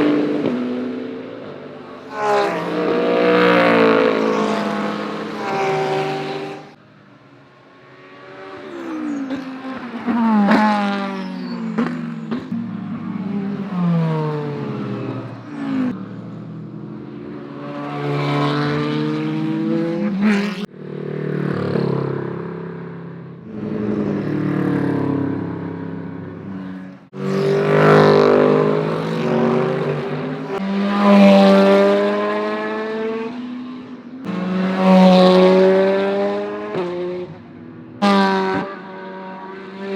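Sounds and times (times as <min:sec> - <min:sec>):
race cars passing at full pace: 0:00.0 - 0:39.9.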